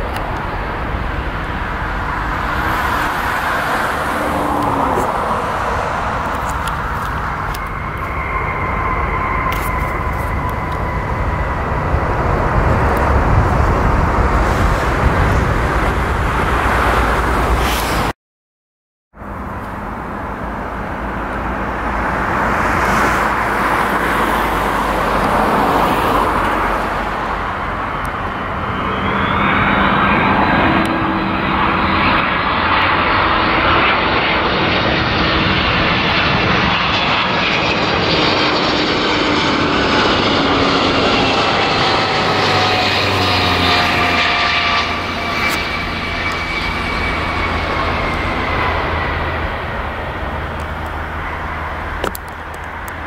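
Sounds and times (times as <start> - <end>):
approaching aircraft engine whine: 0.0 - 18.1, 19.2 - 53.0
jet engine rumble: 0.0 - 18.2, 19.2 - 53.0.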